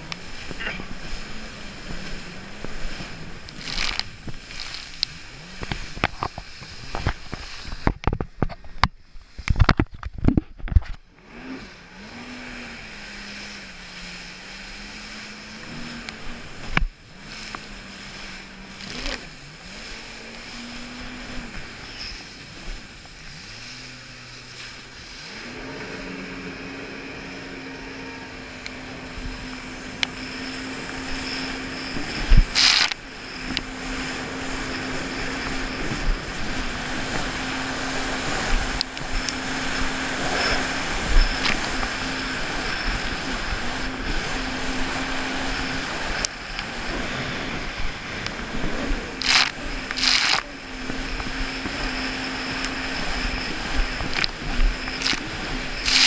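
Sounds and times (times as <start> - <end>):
jet ski engine: 0.0 - 56.0
rushing water: 0.0 - 56.0
wind: 0.0 - 56.0.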